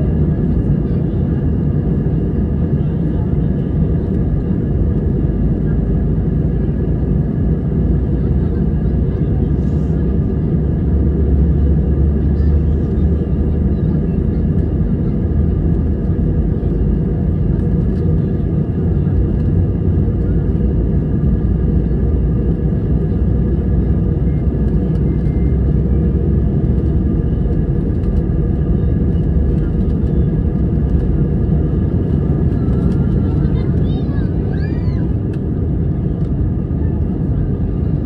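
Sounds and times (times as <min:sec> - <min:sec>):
jet engines at high thrust: 0:00.0 - 0:38.0
low runway rumble: 0:00.0 - 0:38.0.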